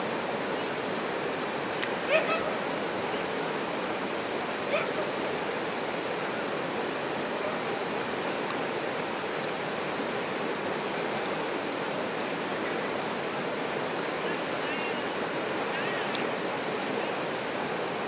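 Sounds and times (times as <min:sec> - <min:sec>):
river rapids rushing over rocks: 0:00.0 - 0:18.0.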